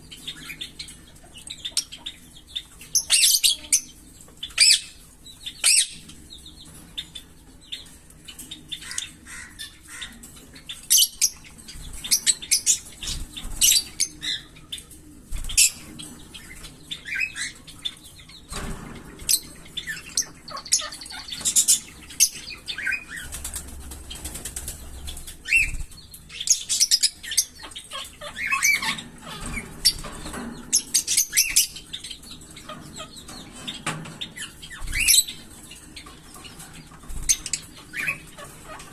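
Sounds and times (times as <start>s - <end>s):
parrots chirping: 0.0s - 14.8s, 19.3s - 23.2s, 25.1s - 38.9s.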